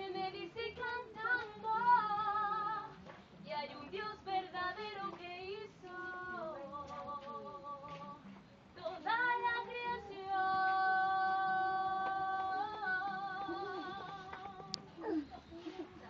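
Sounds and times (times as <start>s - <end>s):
women and children singing a hymn: 0.0s - 8.2s, 8.8s - 14.7s.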